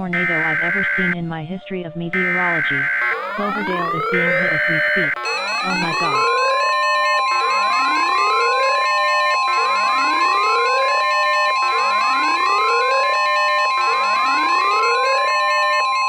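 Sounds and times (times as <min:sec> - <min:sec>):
long steady alarm tone: 0:00.0 - 0:01.2, 0:02.1 - 0:16.0
siren-like wail: 0:00.0 - 0:01.2, 0:02.2 - 0:16.0
synthesizer music: 0:00.0 - 0:01.2, 0:02.2 - 0:15.8.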